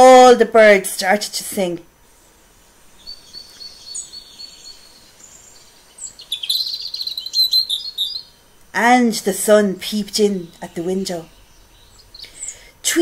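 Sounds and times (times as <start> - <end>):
small birds chirping and trilling: 2.0 - 13.0.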